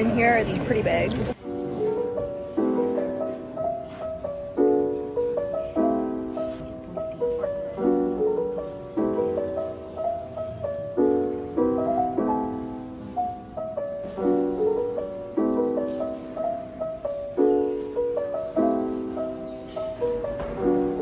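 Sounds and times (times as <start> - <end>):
piano chords with melody: 0.0 - 21.0.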